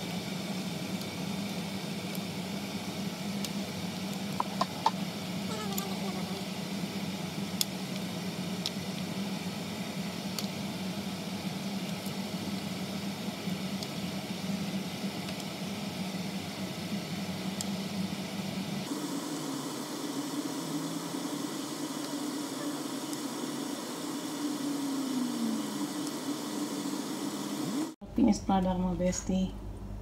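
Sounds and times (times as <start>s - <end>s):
food simmering in a frying pan: 0.0s - 28.0s
low hum: 0.0s - 30.0s.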